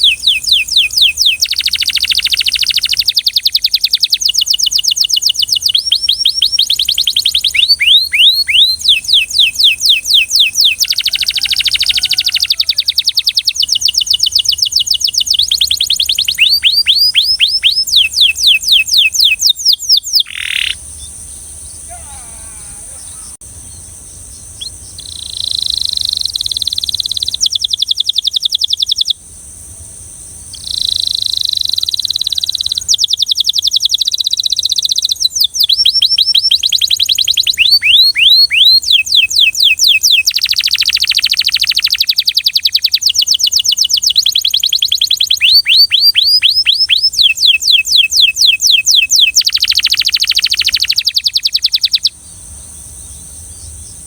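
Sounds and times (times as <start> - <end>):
canary singing trills: 0.0 - 29.2, 30.4 - 54.0.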